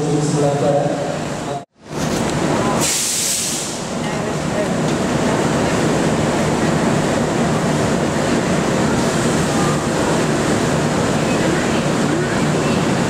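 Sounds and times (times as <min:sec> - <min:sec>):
train wheel and running noise: 0:00.0 - 0:13.0.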